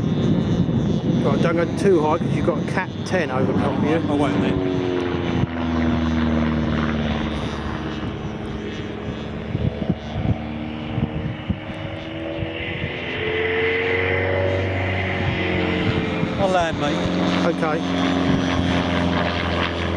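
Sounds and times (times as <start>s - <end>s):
model airplane engine in flight: 0.0s - 19.9s.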